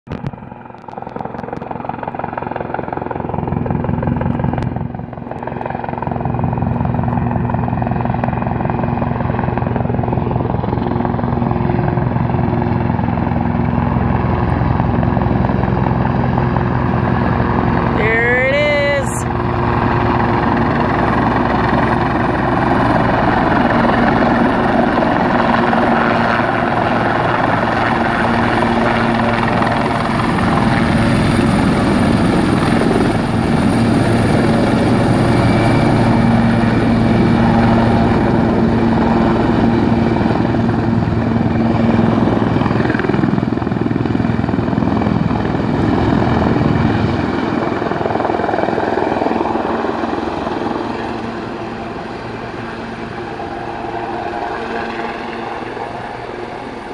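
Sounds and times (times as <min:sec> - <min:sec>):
helicopter rotors and engines: 0:00.1 - 0:56.9.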